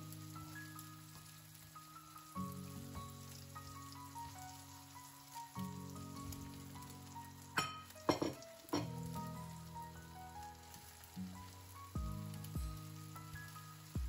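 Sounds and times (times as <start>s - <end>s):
food frying in a pan: 0.0s - 14.0s
soft background music: 0.0s - 14.0s.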